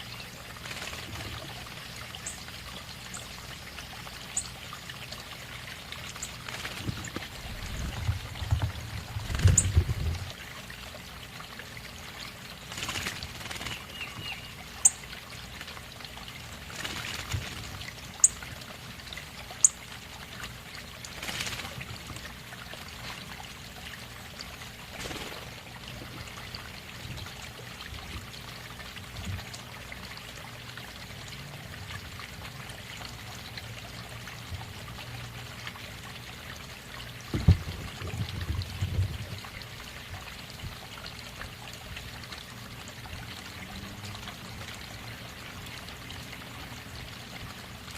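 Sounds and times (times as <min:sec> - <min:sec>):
water trickling and pouring: 0:00.0 - 0:47.9.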